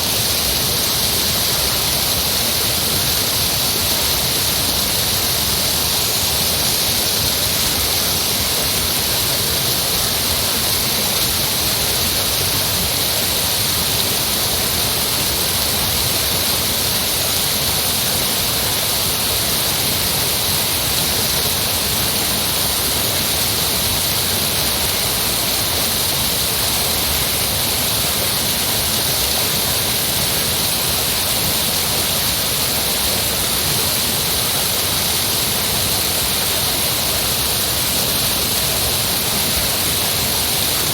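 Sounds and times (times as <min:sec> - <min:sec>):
heavy rushing water: 0:00.0 - 0:40.9.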